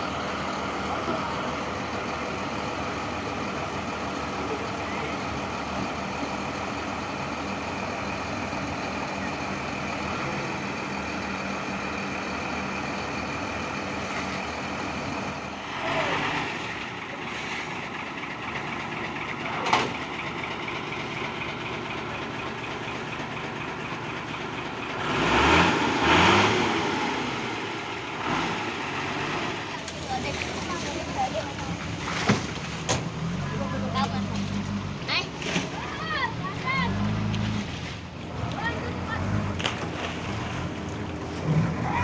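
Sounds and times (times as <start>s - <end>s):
heavy diesel engine idling: 0.0s - 42.0s.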